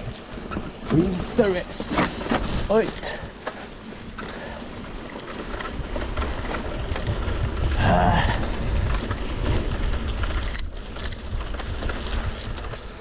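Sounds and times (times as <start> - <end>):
bike rumbling and rattling on trail: 0.0 - 13.0.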